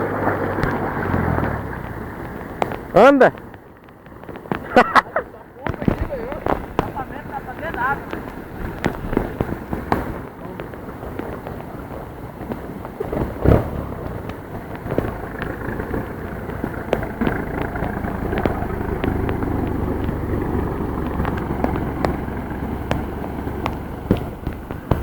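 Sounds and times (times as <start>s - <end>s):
heavy rain pattering: 0.0s - 25.0s
vehicle engine rumble: 0.0s - 25.0s.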